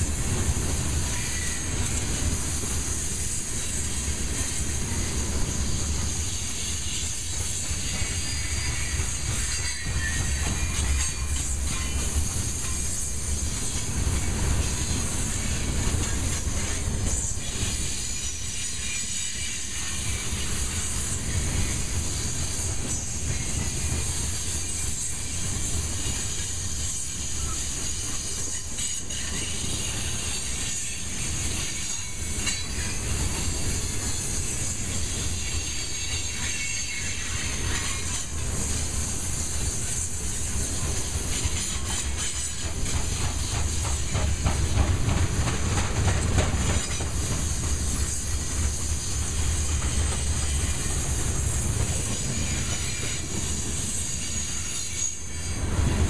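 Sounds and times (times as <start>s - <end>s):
high hiss and wheel clatter: 0.0s - 56.0s
train wheels rumbling on rails: 0.0s - 56.0s.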